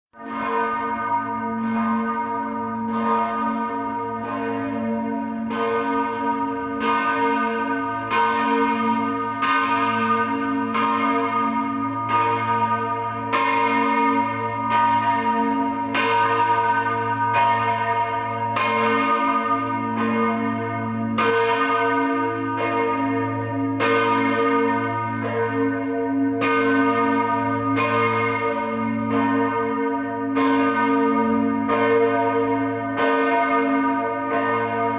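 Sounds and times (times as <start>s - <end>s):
church bells ringing: 0.2s - 34.9s.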